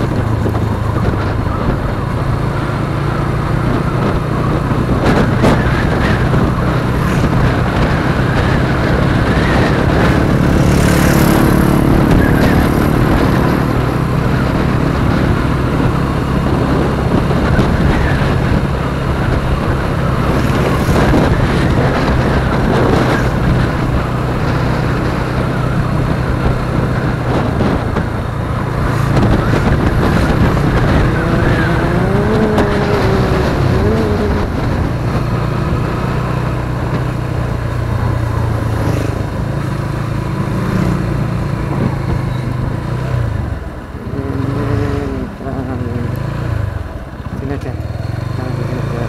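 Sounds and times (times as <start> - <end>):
motorcycle engine running: 0.0 - 49.0
wind and road rush: 0.0 - 49.0.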